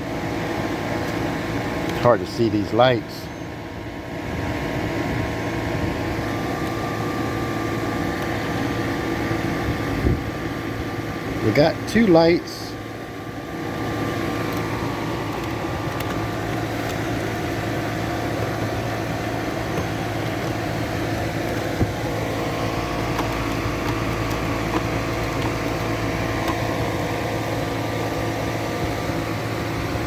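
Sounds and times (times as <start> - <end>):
machine hum with held tones: 0.0 - 30.0.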